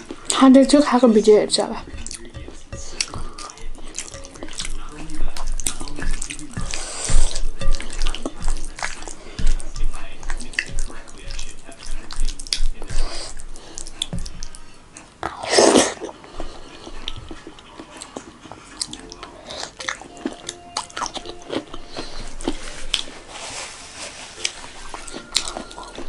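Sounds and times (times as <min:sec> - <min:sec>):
chewing and mouth smacks: 0:01.8 - 0:23.1, 0:24.4 - 0:26.0.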